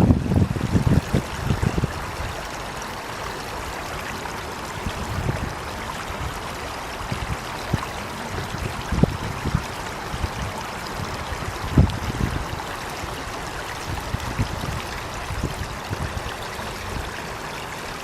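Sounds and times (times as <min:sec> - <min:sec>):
water running like a stream: 0:00.0 - 0:18.0.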